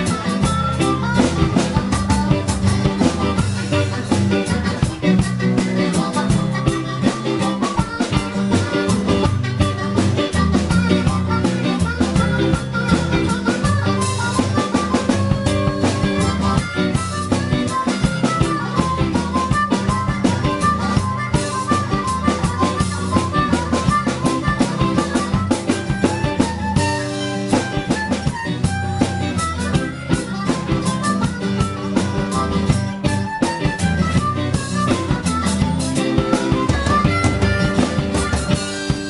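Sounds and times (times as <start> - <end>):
blues harmonica runs: 0.0 - 39.0
drums with steady beat: 0.0 - 39.0
electric guitar: 0.0 - 39.0
strummed acoustic guitar: 0.0 - 39.0.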